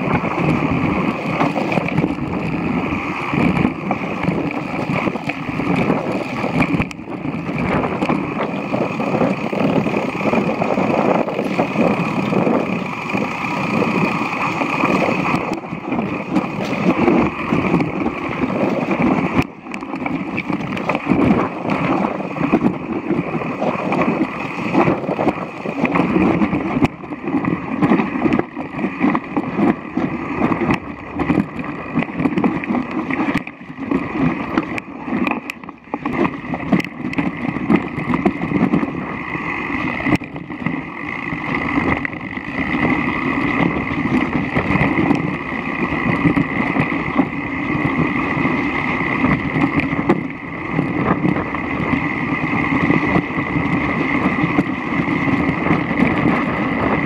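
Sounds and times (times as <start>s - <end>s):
bike clicks and rattles: 0.0s - 57.0s
bike tyres rumbling on stones: 0.0s - 57.0s
rushing air: 0.0s - 57.0s.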